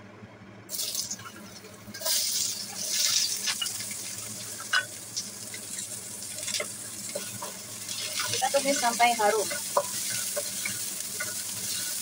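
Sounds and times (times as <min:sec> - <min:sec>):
aromatics sizzling in hot oil: 0:00.7 - 0:12.0.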